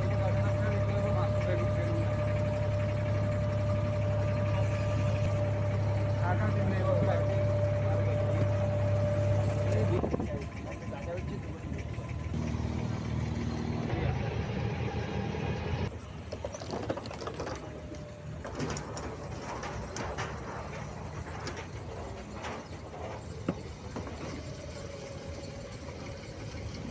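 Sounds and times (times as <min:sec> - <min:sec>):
low engine hum: 0:00.0 - 0:26.9.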